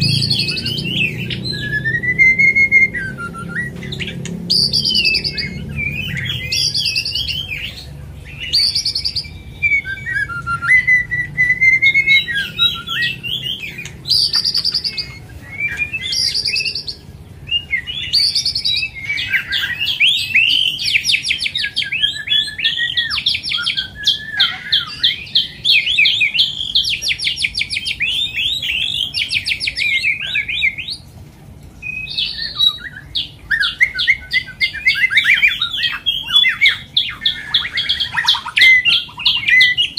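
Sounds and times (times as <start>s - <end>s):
bird singing whistled song: 0.0s - 31.1s, 31.8s - 39.9s.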